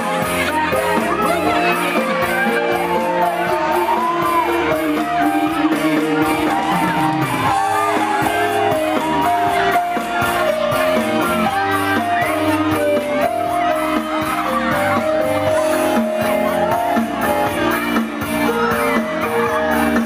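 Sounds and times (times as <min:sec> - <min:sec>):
crowd shouting: 0:00.0 - 0:20.0
live band music: 0:00.0 - 0:20.0.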